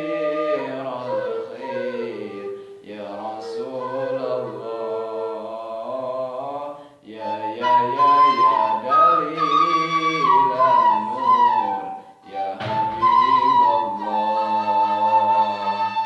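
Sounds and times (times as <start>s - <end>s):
bamboo flute melody: 0.0s - 6.0s, 7.2s - 16.0s
devotional song singing: 0.0s - 16.0s.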